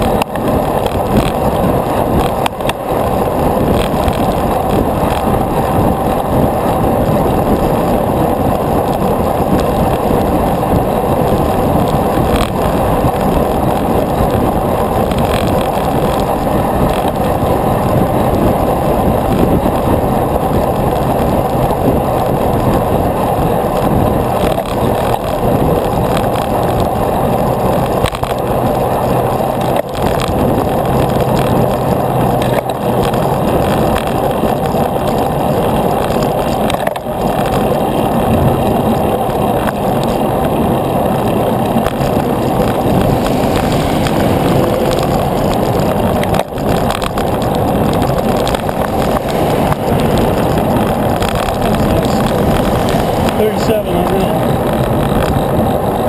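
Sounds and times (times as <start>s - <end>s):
bicycle road and air noise: 0.0s - 56.0s.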